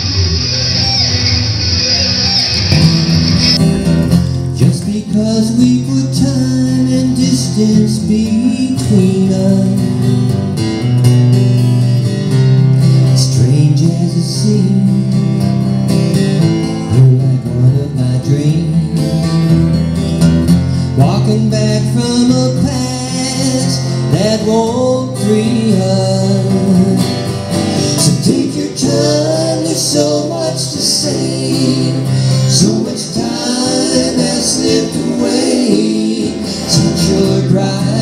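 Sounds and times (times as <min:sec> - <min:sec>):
acoustic guitar strummed and picked: 0:00.0 - 0:38.0.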